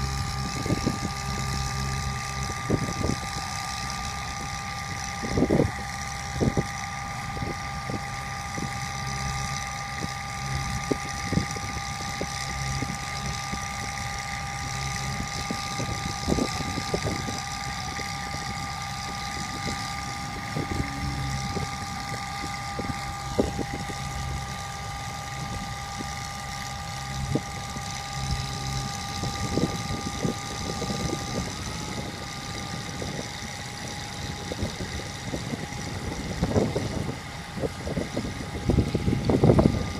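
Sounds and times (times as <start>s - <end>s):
high whine: 0.0s - 39.9s
truck engine running: 0.0s - 39.9s.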